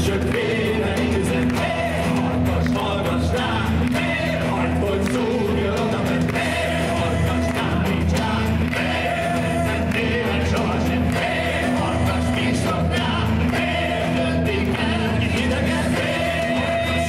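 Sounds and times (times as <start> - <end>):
men singing into microphones: 0.0 - 17.0.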